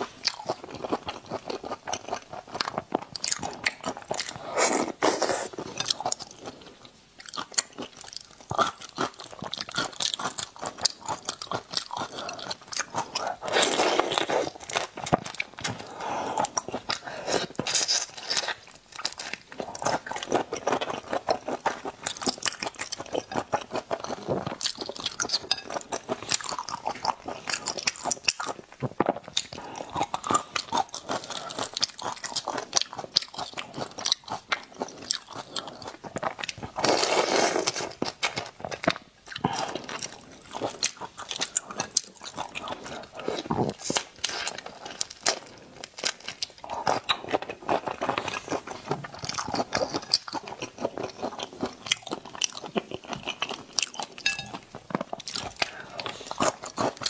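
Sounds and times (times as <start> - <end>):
crunching and chewing prawns: 0.0 - 57.0.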